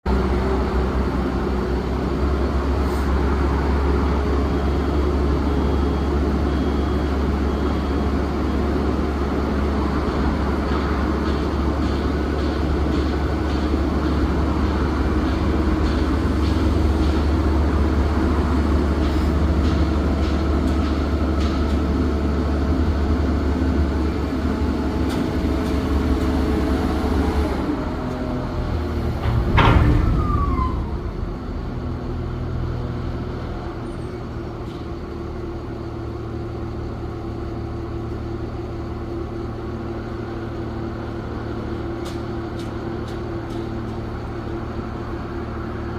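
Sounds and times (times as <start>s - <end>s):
heavy diesel engine running: 0.1s - 45.9s.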